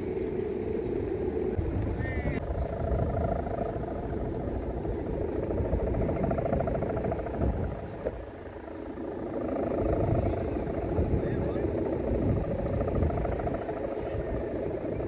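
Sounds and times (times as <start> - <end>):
pulsing hum: 0.0 - 15.0
wind rumbling on microphone: 0.0 - 15.0.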